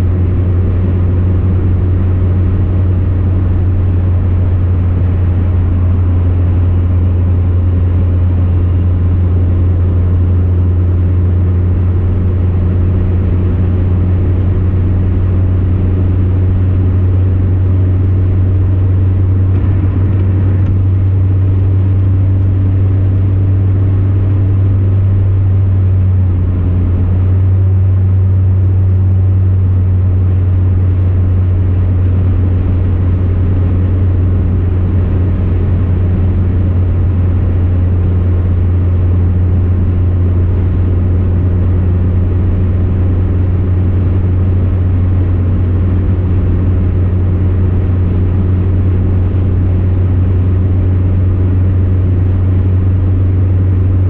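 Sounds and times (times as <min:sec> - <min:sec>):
vehicle cabin road and engine drone: 0:00.0 - 0:54.0.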